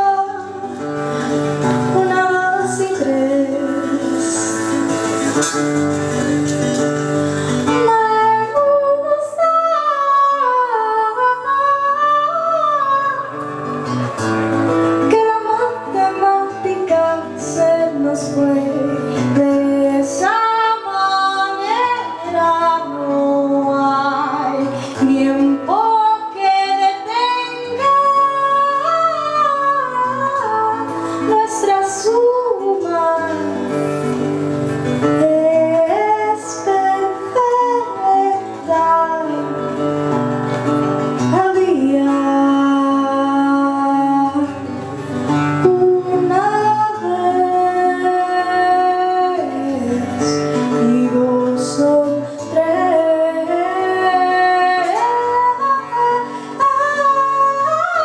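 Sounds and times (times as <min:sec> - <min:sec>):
acoustic guitar strumming: 0:00.0 - 0:58.0
woman singing: 0:00.0 - 0:58.0.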